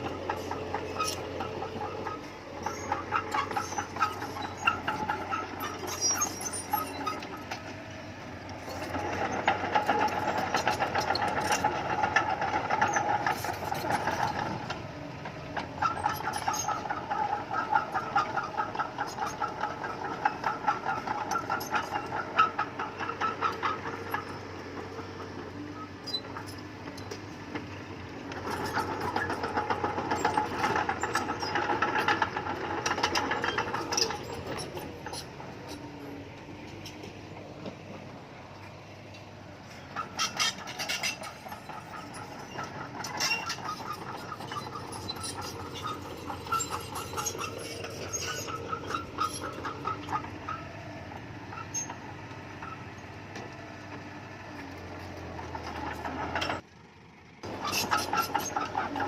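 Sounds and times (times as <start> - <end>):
steel tracks clanking and squealing: 0.0 - 56.6, 57.4 - 59.0
diesel engine under load: 0.0 - 59.0.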